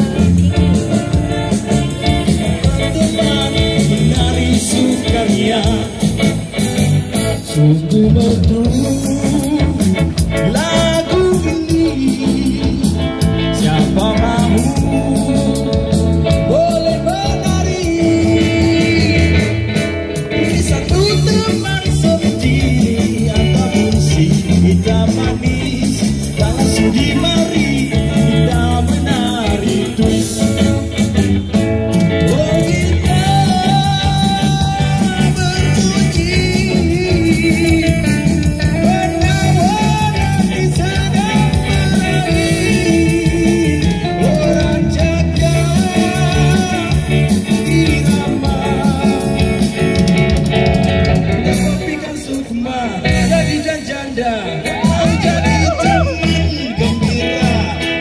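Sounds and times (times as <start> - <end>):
drums: 0.0 - 58.0
electric bass guitar: 0.0 - 58.0
keyboard: 0.0 - 58.0
man singing: 0.0 - 58.0.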